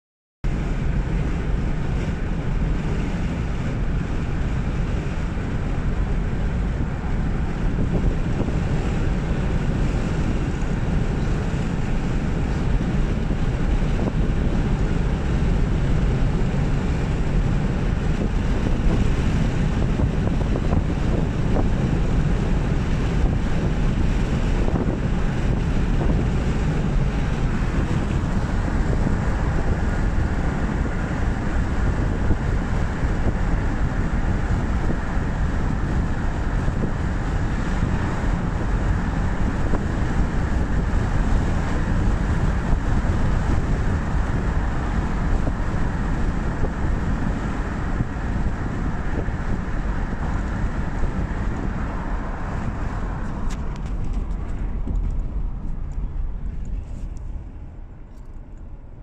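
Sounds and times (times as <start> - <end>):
car road noise and engine hum: 0.4 - 59.0.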